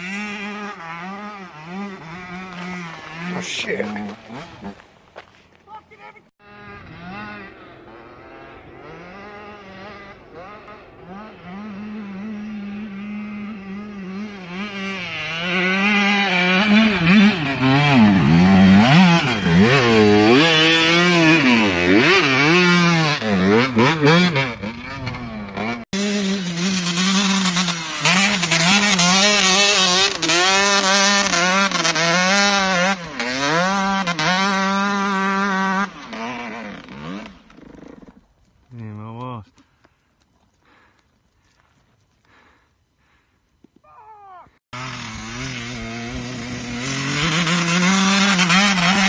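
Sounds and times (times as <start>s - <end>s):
dirt bike engine revving: 0.0s - 38.3s, 44.7s - 49.0s.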